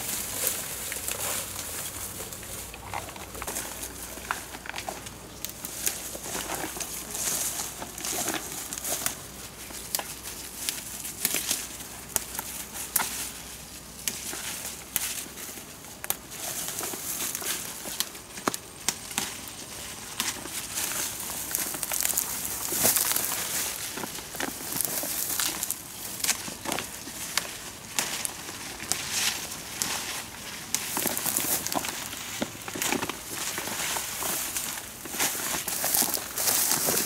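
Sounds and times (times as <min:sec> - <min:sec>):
leaf stems snapping: 0:00.0 - 0:13.4, 0:14.0 - 0:37.0
leaves rustling: 0:00.0 - 0:37.0.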